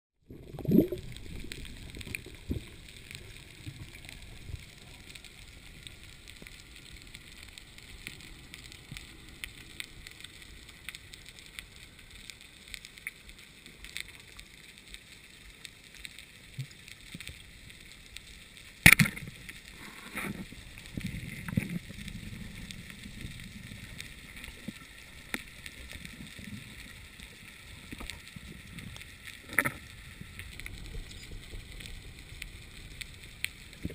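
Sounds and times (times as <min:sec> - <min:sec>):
faint underwater clicks: 0:00.3 - 0:33.9.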